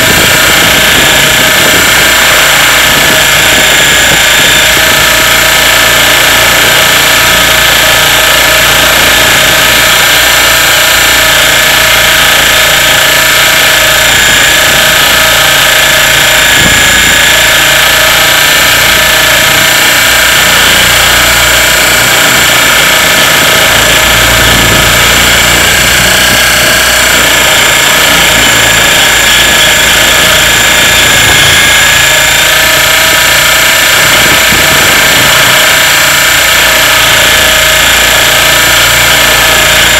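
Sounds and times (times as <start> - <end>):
helicopter motor and rotor whine: 0.0 - 39.9.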